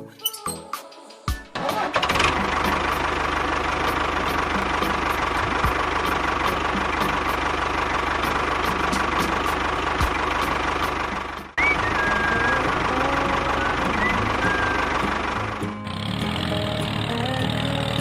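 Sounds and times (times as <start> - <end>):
small engine idling: 1.6 - 18.0.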